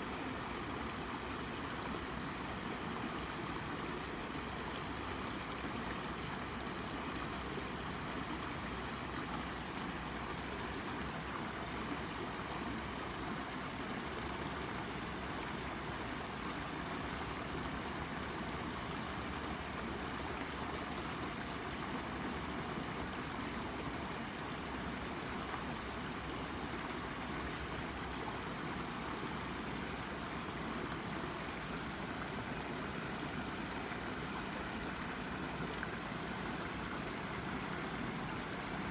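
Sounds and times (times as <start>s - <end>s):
brook babbling over rock: 0.0s - 38.9s.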